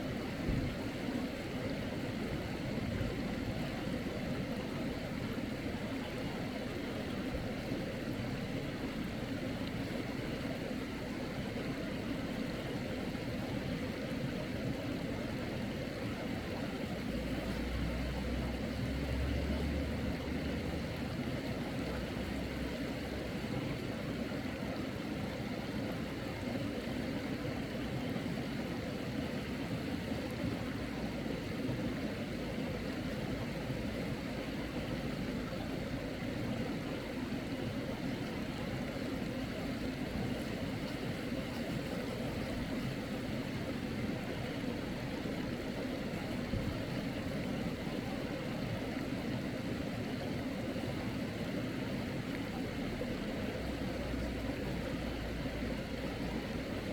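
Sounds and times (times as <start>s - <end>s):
mountain stream rushing: 0.0s - 56.9s.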